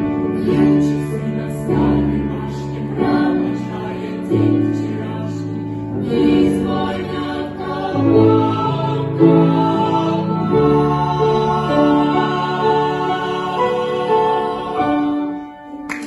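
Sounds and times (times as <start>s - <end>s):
vocal ensemble singing held chords: 0.0s - 15.8s
musical accompaniment: 0.0s - 16.0s.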